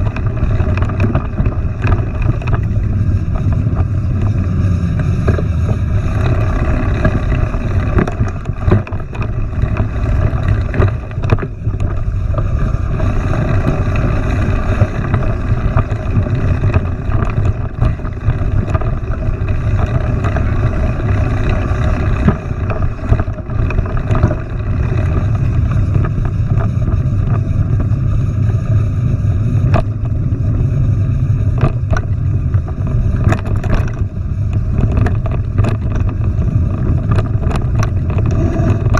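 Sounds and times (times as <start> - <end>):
bike knocks and rattles: 0.0 - 38.9
wind buffeting microphone: 0.0 - 38.9.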